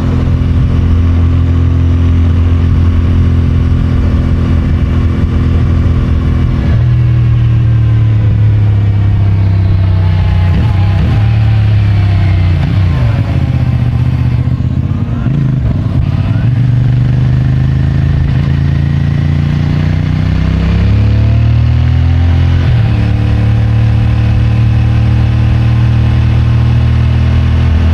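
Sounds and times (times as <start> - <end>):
motorcycle engine riding along: 0.0 - 27.9.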